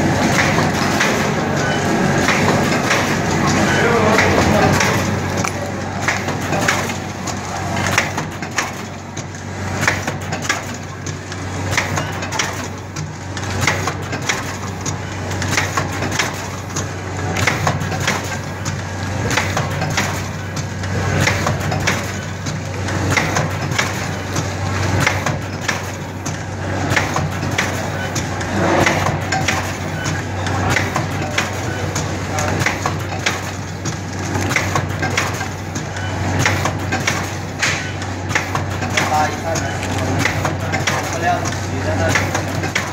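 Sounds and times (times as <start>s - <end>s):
machine clacks and knocks: 0.0s - 42.9s
machine humming: 0.0s - 42.9s.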